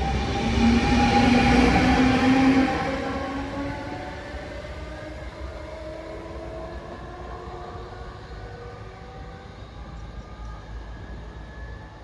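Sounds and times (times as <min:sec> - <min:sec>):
electric locomotive traction whine: 0:00.0 - 0:12.0.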